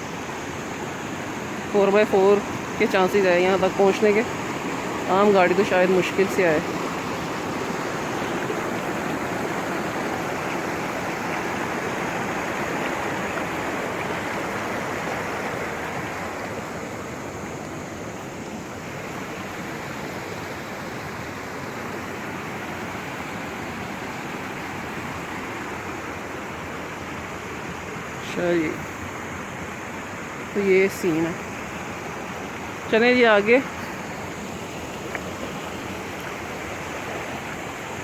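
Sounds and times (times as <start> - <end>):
fast river rushing: 0.0 - 38.0.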